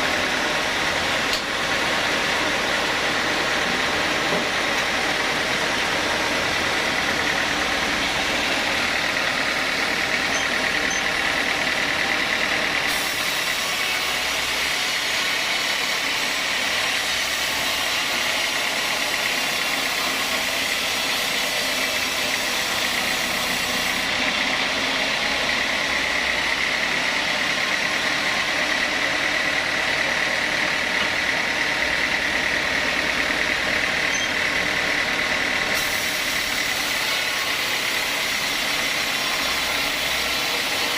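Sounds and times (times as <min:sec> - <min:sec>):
saw machinery whining: 0:00.0 - 0:40.9.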